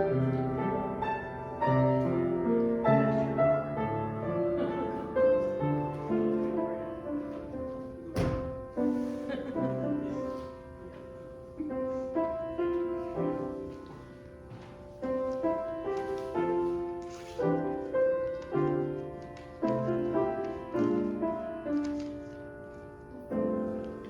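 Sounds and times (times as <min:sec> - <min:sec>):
slow hymn-style piano: 0:00.0 - 0:24.0.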